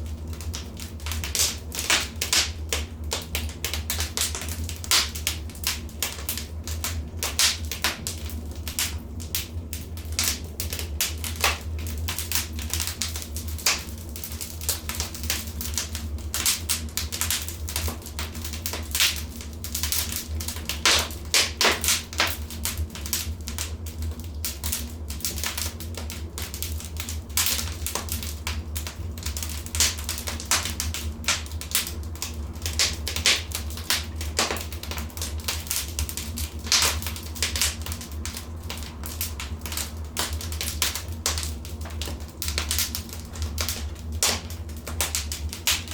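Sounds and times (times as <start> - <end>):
fire crackling and popping: 0.0 - 45.9
low rumble of flames: 0.0 - 45.9.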